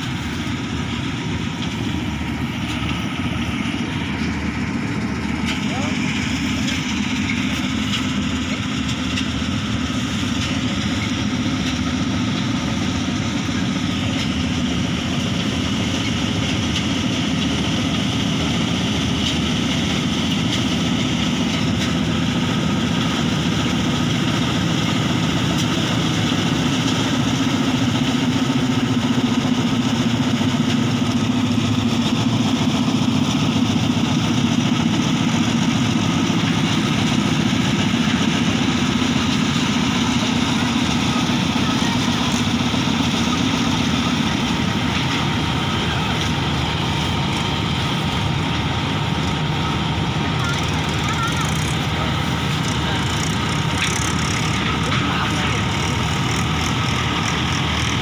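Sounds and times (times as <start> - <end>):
diesel engine running: 0.0 - 58.0
threshing machinery: 0.0 - 58.0.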